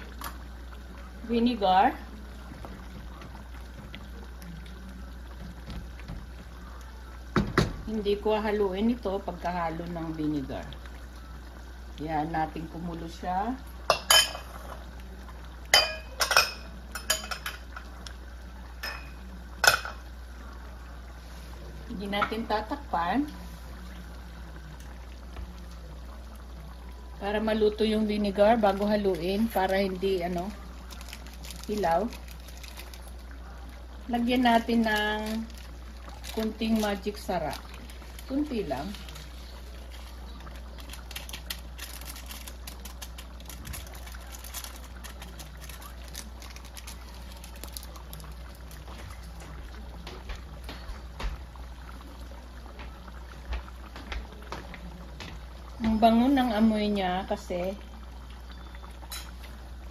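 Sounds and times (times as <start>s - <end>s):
sauce simmering with pops: 0.0s - 59.9s.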